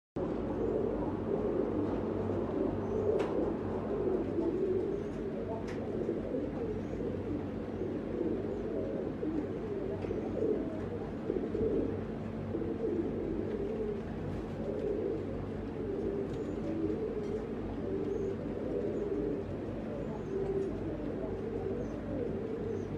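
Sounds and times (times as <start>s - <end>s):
pigeons cooing: 0.2s - 22.9s.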